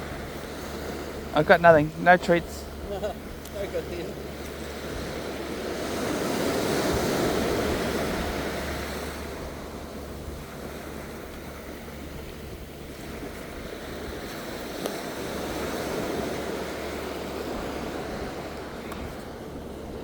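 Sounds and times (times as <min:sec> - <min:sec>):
waves washing up beach: 0:00.0 - 0:20.0
wind rumble on microphone: 0:00.0 - 0:20.0.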